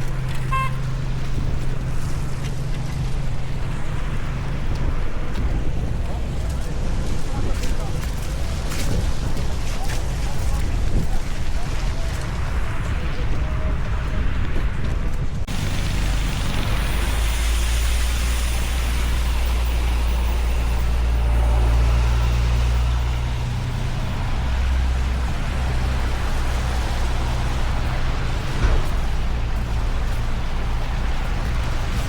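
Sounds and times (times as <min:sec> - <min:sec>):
tyres hissing on wet road: 0:00.0 - 0:14.4, 0:15.5 - 0:32.0
heavy vehicle engine rumbling: 0:00.0 - 0:32.0.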